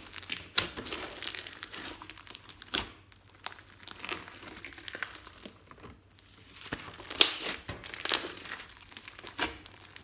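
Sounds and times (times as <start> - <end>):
slime crackling and popping: 0.0 - 10.0.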